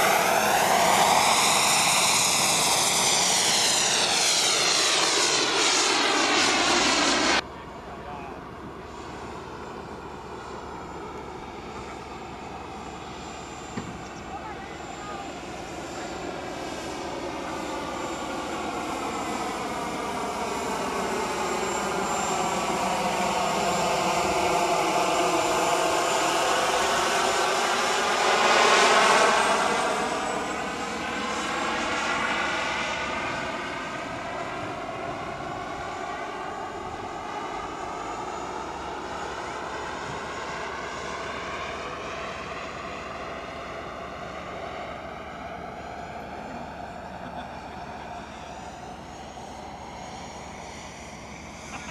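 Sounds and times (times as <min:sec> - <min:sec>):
jet turbine whine and roar: 0:00.0 - 0:51.9.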